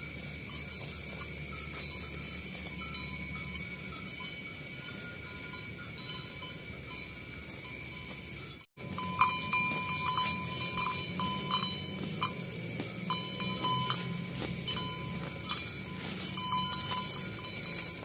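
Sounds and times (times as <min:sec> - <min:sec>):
cattle bells clanking: 0:00.0 - 0:18.0
high-pitched background hum: 0:00.0 - 0:18.0.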